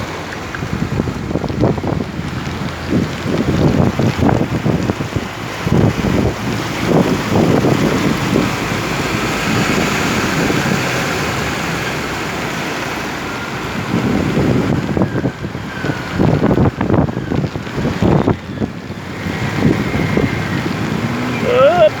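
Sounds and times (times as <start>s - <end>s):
heavy rain pouring: 0.0s - 22.0s
wind buffeting microphone: 0.0s - 22.0s.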